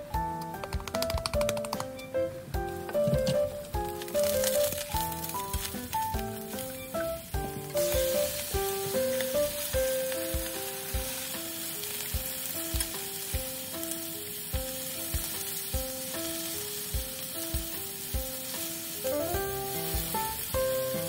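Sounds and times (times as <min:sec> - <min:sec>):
light background music: 0:00.0 - 0:21.0
food sizzling in frying pan: 0:02.6 - 0:21.0.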